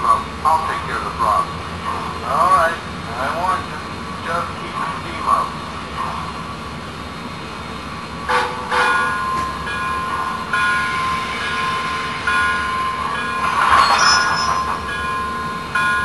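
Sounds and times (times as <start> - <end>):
locomotive bell ringing: 0.0 - 6.9, 8.2 - 16.0.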